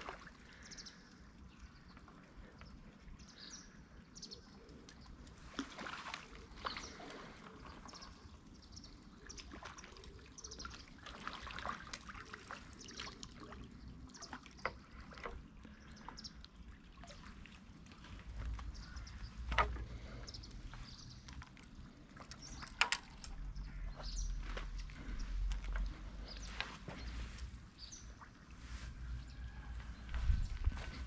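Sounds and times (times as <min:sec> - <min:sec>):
water trickling and dripping: 0:04.2 - 0:31.0.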